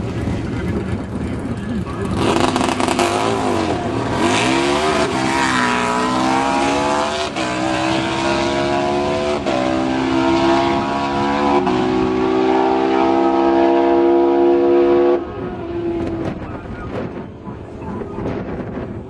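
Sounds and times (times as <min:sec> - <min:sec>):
motorcycles accelerating hard: 0:00.0 - 0:17.3.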